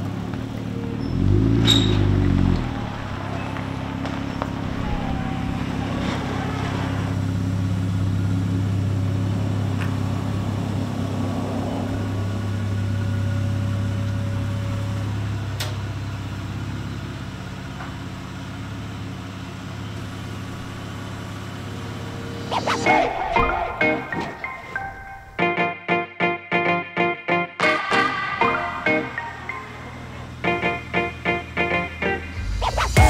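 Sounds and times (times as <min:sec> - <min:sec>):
car engine humming: 0:00.0 - 0:25.4, 0:27.6 - 0:33.0.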